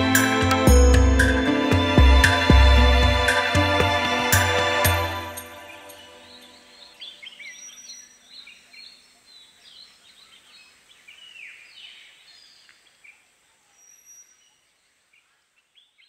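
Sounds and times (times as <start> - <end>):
birds chirping: 0.0 - 14.7.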